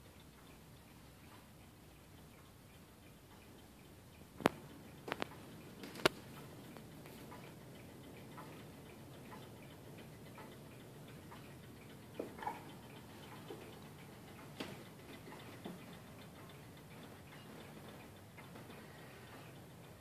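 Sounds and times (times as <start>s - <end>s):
wall clock ticking: 0.0s - 20.0s.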